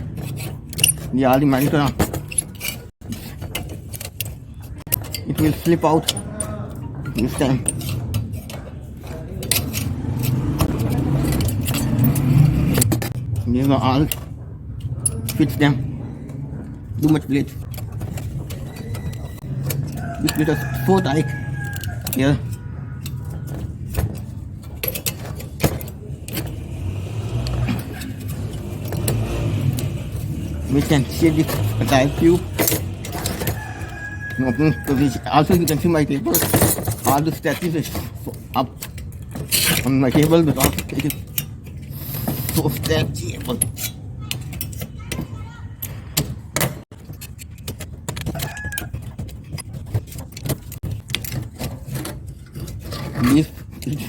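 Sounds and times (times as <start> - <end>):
metal clinking and scraping: 0.0 - 54.0.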